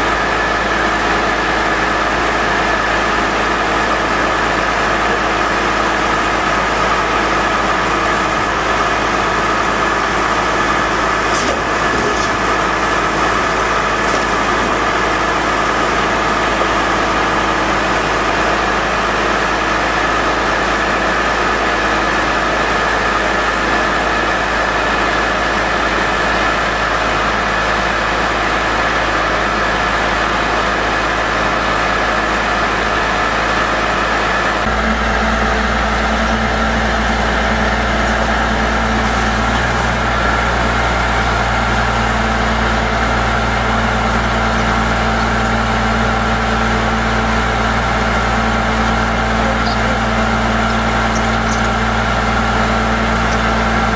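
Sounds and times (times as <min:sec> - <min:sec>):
drilling rig droning: 0:00.0 - 0:53.9.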